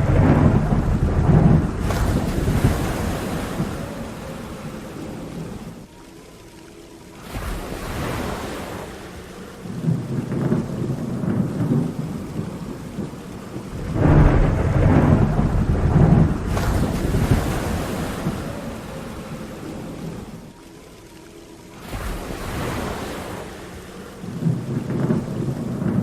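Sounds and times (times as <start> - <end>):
thunder rolling: 0.0 - 5.9, 7.2 - 20.6, 21.8 - 26.0
steady rain: 0.0 - 26.0.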